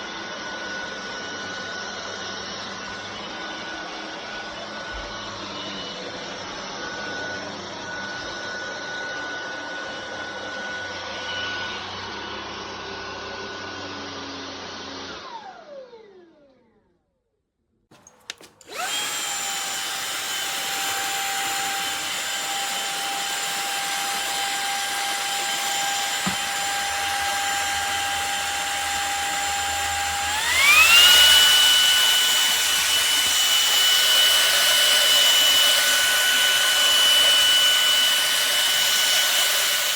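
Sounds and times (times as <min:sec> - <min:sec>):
vacuum cleaner motor whining: 0:00.0 - 0:16.6, 0:17.9 - 0:39.9.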